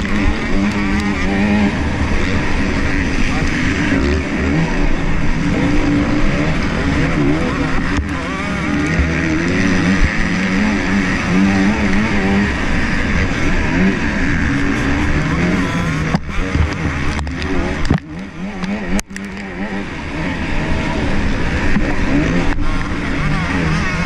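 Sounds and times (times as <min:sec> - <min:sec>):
motocross bike engine revving: 0:00.0 - 0:24.0
other motorbikes: 0:00.0 - 0:24.0.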